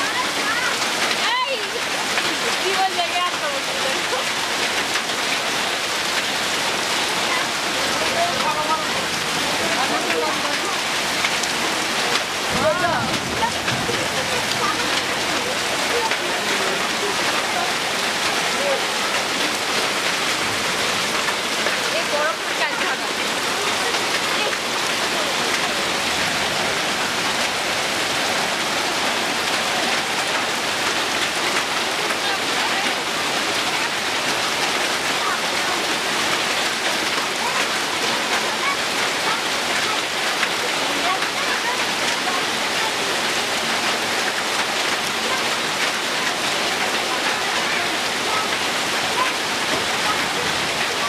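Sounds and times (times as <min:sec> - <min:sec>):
heavy rain on grass: 0:00.0 - 0:51.0.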